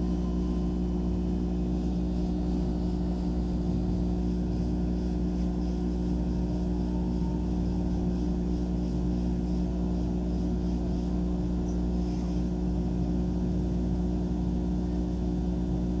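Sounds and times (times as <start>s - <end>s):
laser cutter humming: 0.0s - 16.0s.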